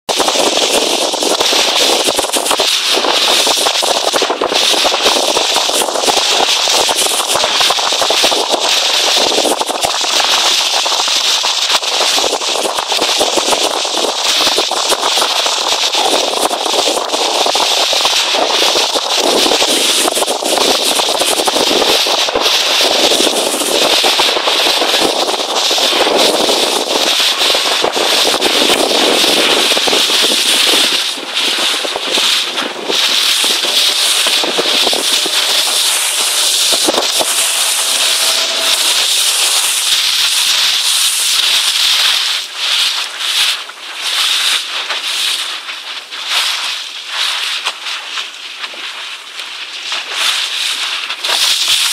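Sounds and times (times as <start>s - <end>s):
water rushing along boat hull: 0.1s - 51.9s.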